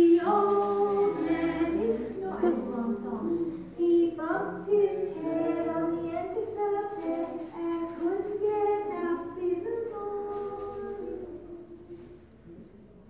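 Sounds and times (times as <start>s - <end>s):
woman singing: 0.0s - 12.1s
hand shakers rattling: 0.0s - 13.0s.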